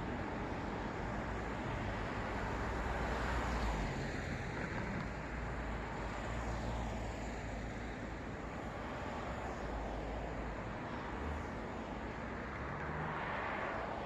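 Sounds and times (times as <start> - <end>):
traffic hiss of tyres and engines: 0.0 - 14.0.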